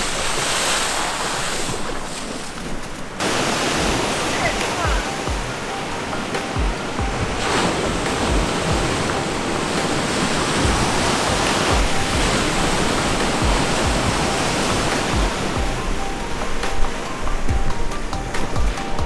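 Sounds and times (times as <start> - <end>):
lake waves: 0.0 - 19.0
wind buffeting microphone: 0.0 - 19.0
wind rushing: 0.0 - 19.0.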